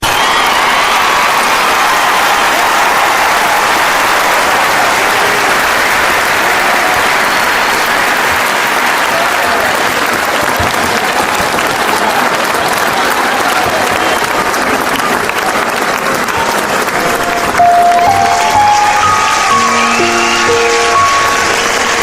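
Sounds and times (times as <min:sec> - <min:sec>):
crowd applauding: 0:00.0 - 0:22.0
people cheering: 0:00.0 - 0:22.0.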